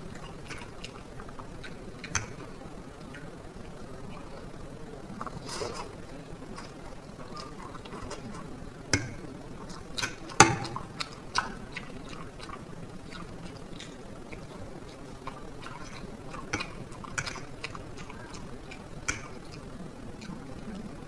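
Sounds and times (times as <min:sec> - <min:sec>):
person chewing: 0:00.0 - 0:04.5, 0:05.1 - 0:21.0.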